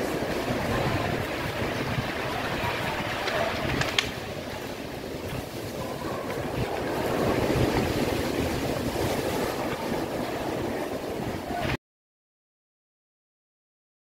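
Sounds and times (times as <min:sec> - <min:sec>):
sea surf on rocky shore: 0:00.0 - 0:11.8
wind buffeting microphone: 0:00.0 - 0:11.8.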